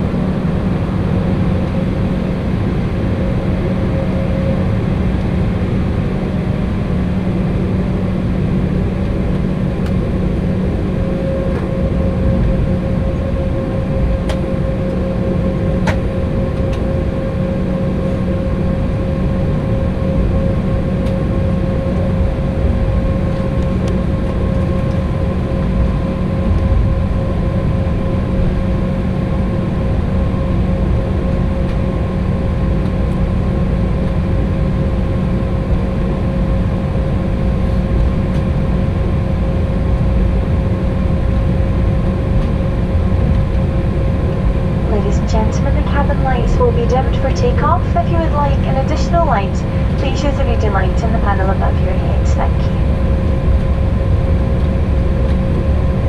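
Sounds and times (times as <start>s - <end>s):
jet engines humming and whining: 0.0s - 56.0s.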